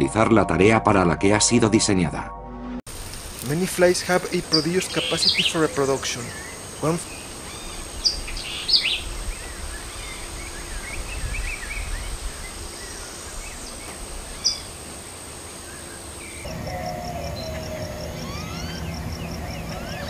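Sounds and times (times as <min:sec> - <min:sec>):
cricket trill: 0:02.9 - 0:20.0
small birds chirping: 0:03.4 - 0:20.0.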